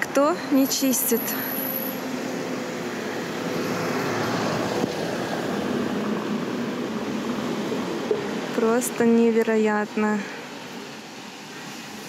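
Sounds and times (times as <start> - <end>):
city background rush: 0.0 - 12.0.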